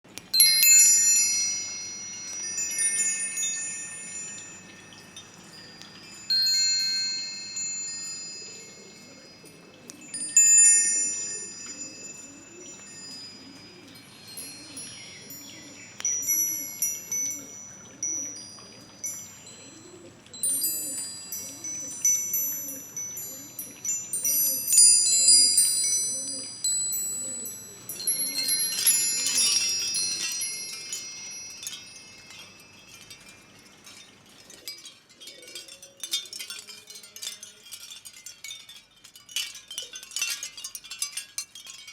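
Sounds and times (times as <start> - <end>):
wind chimes ringing: 0.0 - 41.9.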